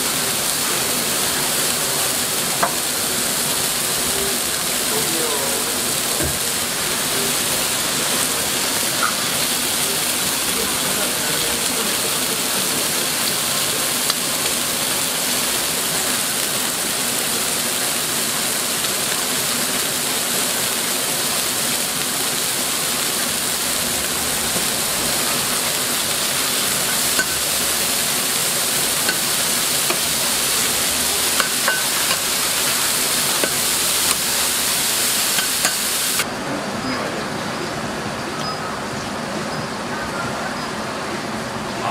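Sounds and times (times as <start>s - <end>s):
food sizzling on griddle: 0.0s - 36.4s.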